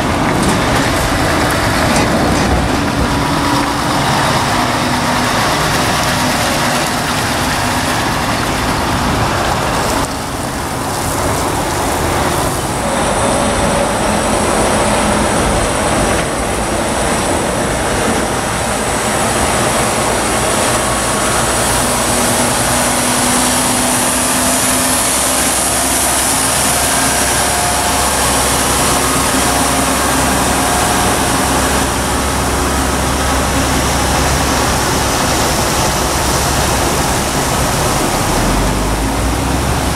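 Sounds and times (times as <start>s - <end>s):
steady rushing noise: 0.0s - 39.9s
truck diesel engines passing: 0.0s - 39.9s.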